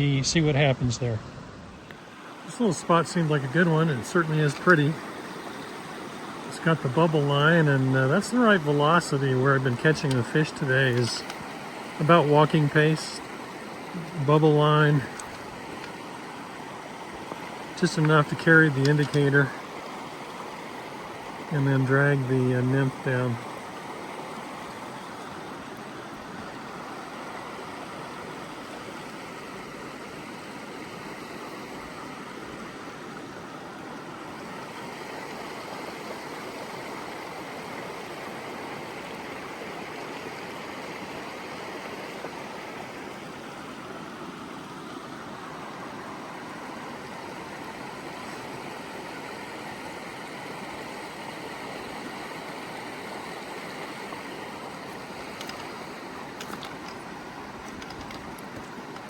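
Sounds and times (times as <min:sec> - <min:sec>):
fast-flowing creek rushing: 0:00.0 - 0:59.0.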